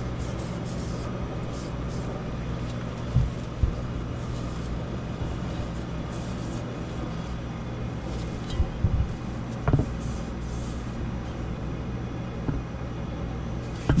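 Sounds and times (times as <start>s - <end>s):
low hum of shop: 0.0s - 14.0s.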